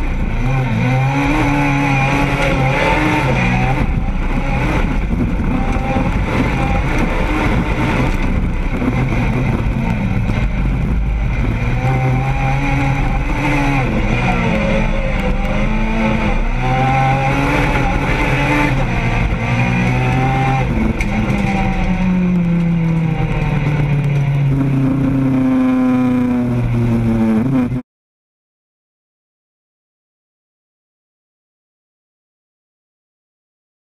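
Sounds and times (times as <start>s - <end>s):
car engine revving: 0.0s - 27.8s.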